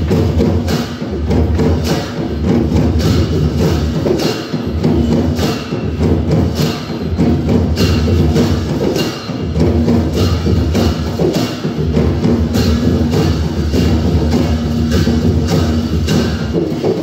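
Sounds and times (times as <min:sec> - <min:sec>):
barrel drums beating: 0:00.0 - 0:17.0
hand cymbals clashing: 0:00.0 - 0:17.0.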